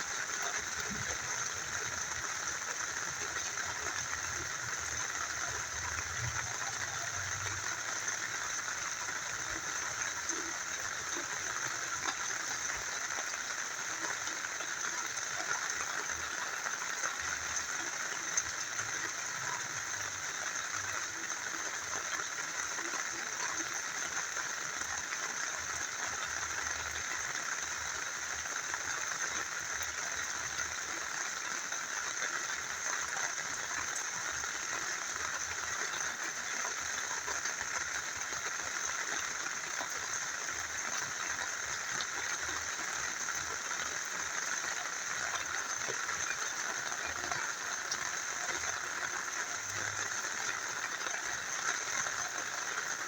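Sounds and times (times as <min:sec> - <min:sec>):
small river flowing: 0:00.0 - 0:53.0
steady rain: 0:00.0 - 0:53.0.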